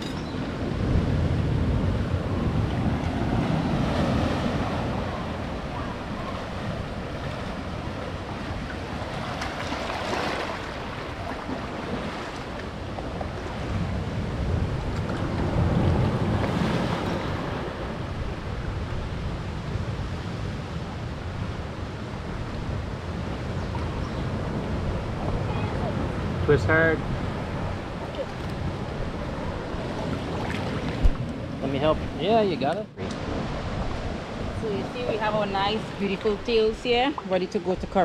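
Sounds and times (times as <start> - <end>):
surf washing among rocks: 0.0 - 38.0
wind rumbling on microphone: 0.0 - 38.0.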